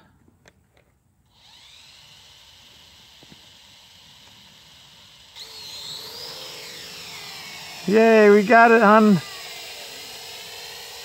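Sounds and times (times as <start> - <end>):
drone motors whining: 1.3 - 11.0.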